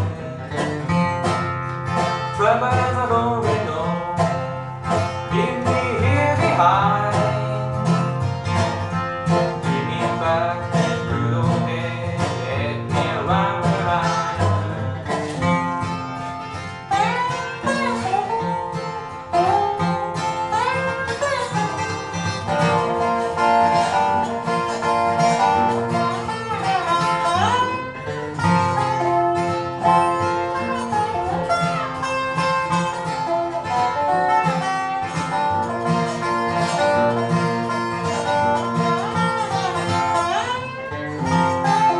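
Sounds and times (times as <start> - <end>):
acoustic guitar: 0.0 - 41.9
resonator slide guitar: 0.0 - 41.9.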